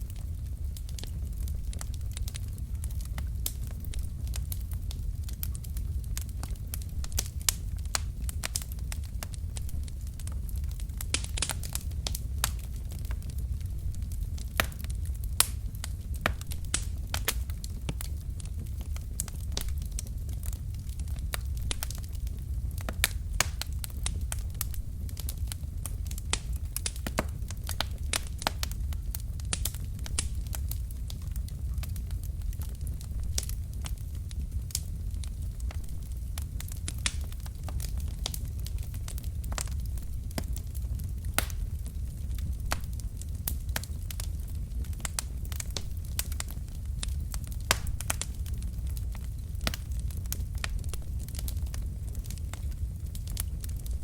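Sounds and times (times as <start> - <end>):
low rumble of flame: 0.0 - 54.0
wood fire crackling: 0.0 - 54.0.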